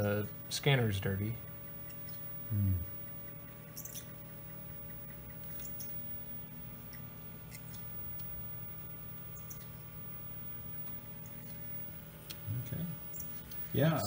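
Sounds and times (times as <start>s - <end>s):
faint steady machine hum: 0.0s - 14.0s.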